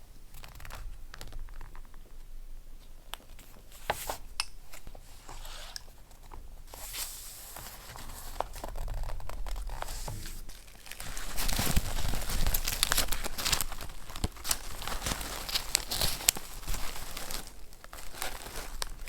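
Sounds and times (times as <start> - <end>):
paper rustling and crinkling: 0.2 - 19.0.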